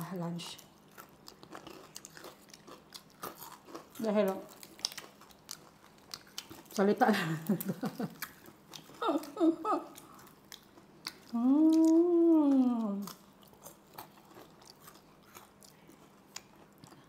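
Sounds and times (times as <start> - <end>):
crunchy chewing: 0.6 - 6.8, 8.0 - 12.0, 12.6 - 17.0.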